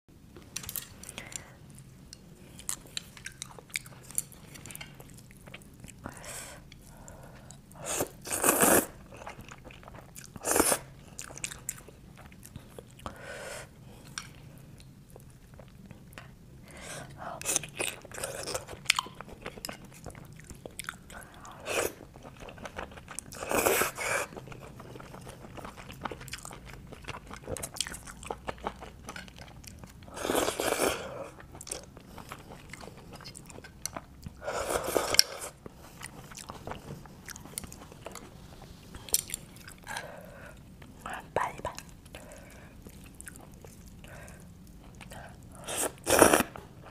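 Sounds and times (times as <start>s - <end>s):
chewing: 0.5s - 6.1s, 6.7s - 13.2s, 17.4s - 46.9s.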